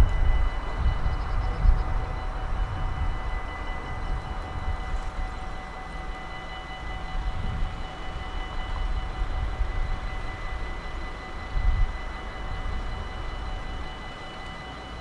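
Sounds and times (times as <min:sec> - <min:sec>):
level crossing warning bells: 0:00.0 - 0:15.0.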